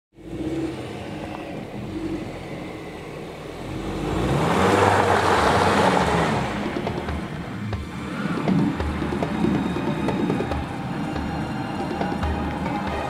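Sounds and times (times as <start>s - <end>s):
car driving past on snow: 0.2s - 11.4s.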